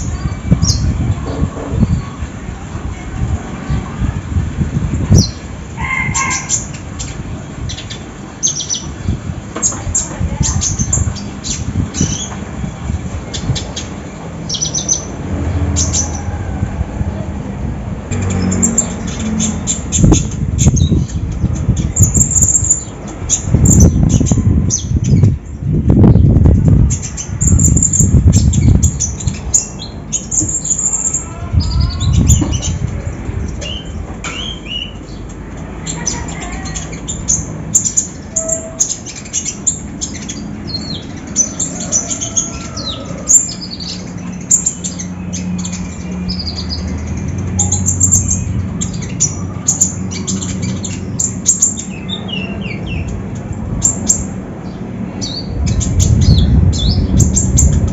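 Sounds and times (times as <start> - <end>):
songbird chirping and squawking: 0.0 - 57.9.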